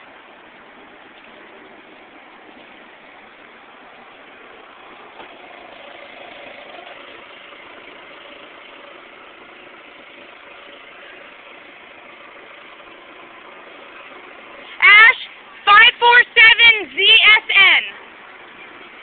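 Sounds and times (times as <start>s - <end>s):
faint steady tones: 0.0s - 19.0s
outdoor background noise: 0.0s - 19.0s.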